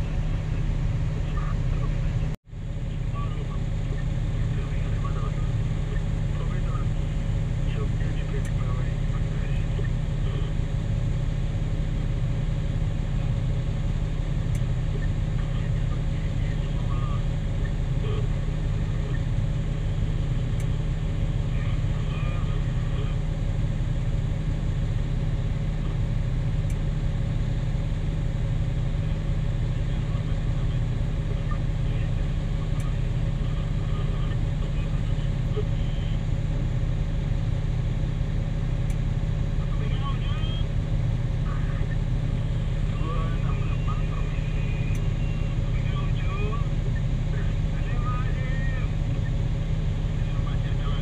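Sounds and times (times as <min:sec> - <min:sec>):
diesel engine droning: 0:00.0 - 0:51.0.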